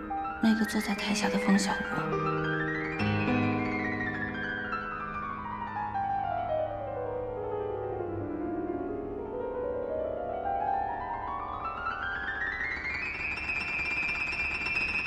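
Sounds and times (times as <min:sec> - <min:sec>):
fast piano run: 0:00.0 - 0:15.0.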